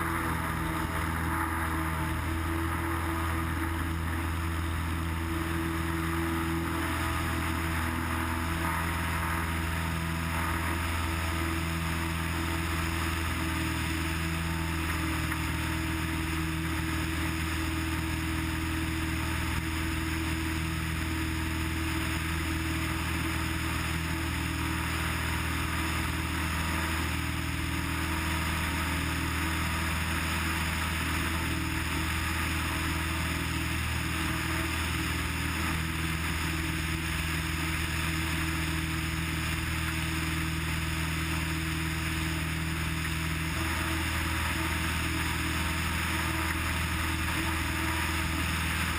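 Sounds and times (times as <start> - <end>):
propeller plane engine droning: 0.0 - 48.9.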